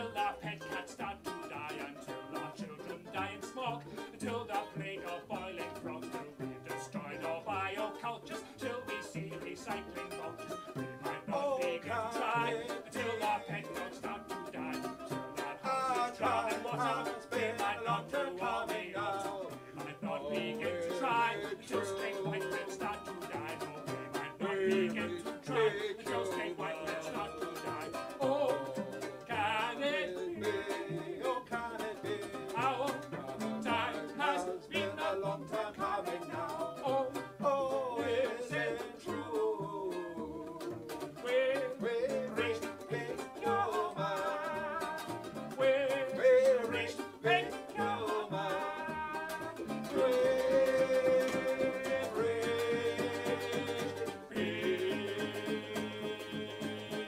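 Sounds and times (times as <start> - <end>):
cello: 0.0 - 57.0
person singing: 0.0 - 57.0
plucked string instrument: 0.0 - 57.0.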